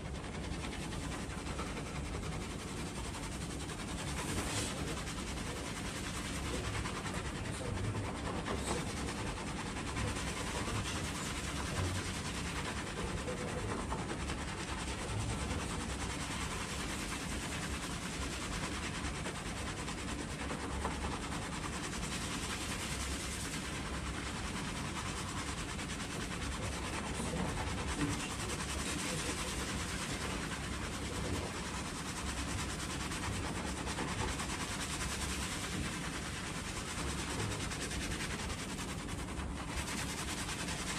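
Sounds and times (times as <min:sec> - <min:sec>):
fingers scrubbing lathered hair: 0:00.0 - 0:40.9.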